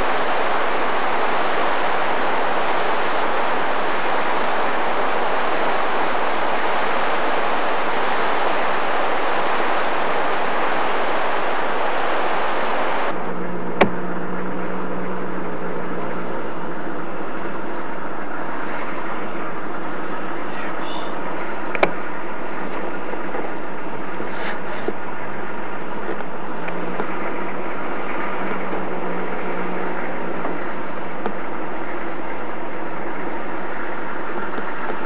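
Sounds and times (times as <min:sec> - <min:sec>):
steady hum with tones: 0:00.0 - 0:35.0.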